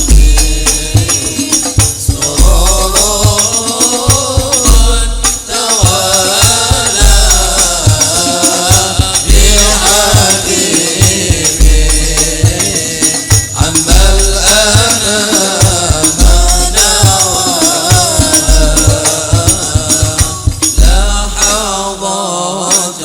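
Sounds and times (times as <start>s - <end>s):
deep bass drum: 0.0s - 3.5s, 4.2s - 12.7s, 13.3s - 21.8s
person singing melodic lines: 0.0s - 23.0s
quick drum and jingle strokes: 0.0s - 23.0s.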